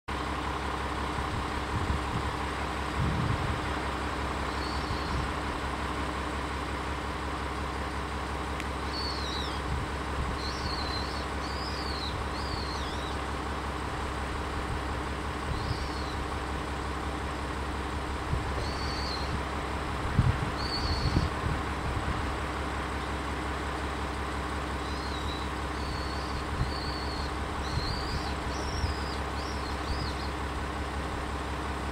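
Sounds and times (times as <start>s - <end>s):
diesel railcar idling: 0.1s - 31.9s.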